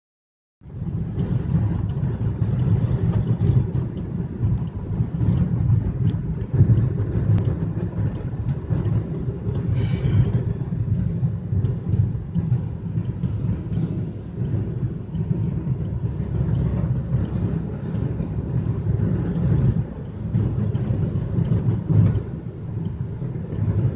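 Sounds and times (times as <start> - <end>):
car cabin road rumble: 0.6 - 23.9.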